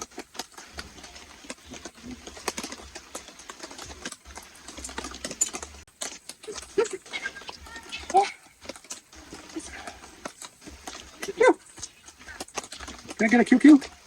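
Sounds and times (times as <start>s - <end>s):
raindrops tapping on a tarp: 0.0s - 14.0s.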